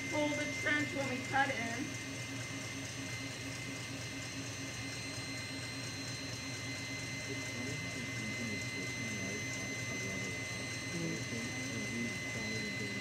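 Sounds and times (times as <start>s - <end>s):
thin high whine: 0.0s - 2.0s, 3.0s - 13.0s
low hum: 0.0s - 13.0s.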